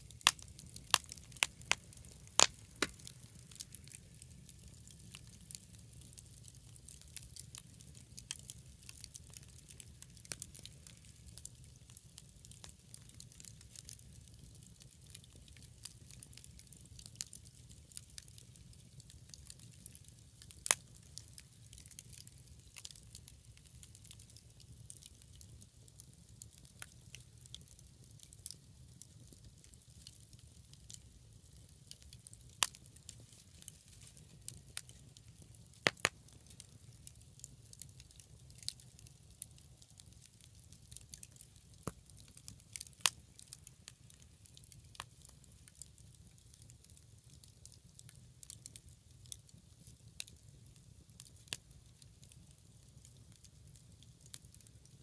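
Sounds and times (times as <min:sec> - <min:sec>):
bonfire crackling and popping: 0:00.0 - 0:55.0
fire low rumble and hiss: 0:00.0 - 0:55.0.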